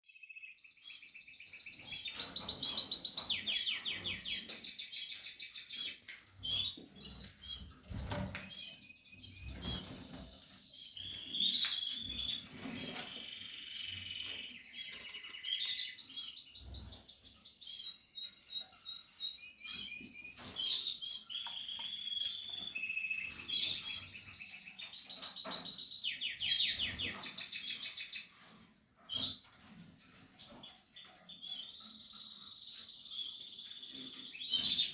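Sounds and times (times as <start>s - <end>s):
canary singing trills: 0.1s - 28.4s, 30.1s - 34.9s.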